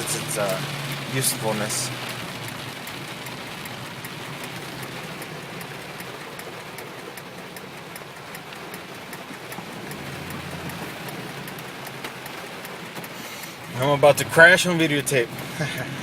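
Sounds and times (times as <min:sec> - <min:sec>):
heavy rain on a car: 0:00.0 - 0:16.0
vehicle rumble: 0:00.0 - 0:16.0.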